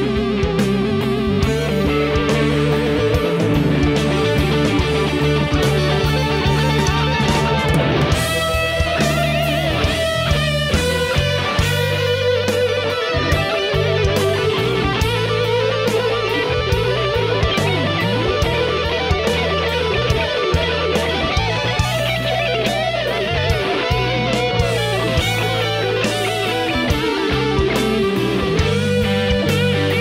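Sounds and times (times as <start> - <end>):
bass guitar: 0.0 - 30.0
drum kit beats: 0.0 - 30.0
lead electric guitar with vibrato: 0.0 - 30.0
rhythm electric guitars: 0.0 - 30.0.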